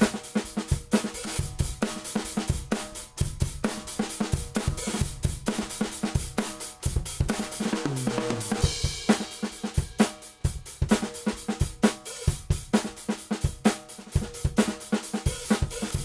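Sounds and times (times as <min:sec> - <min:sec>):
drum kit groove: 0:00.0 - 0:16.0.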